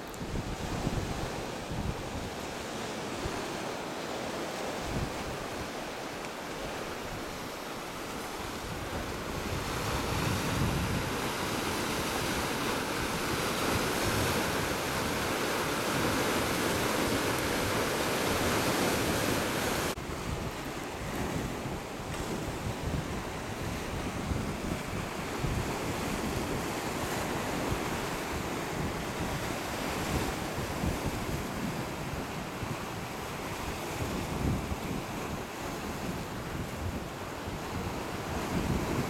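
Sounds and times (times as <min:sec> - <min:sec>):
wind buffeting microphone: 0:00.0 - 0:03.6, 0:04.6 - 0:06.0, 0:06.6 - 0:39.0.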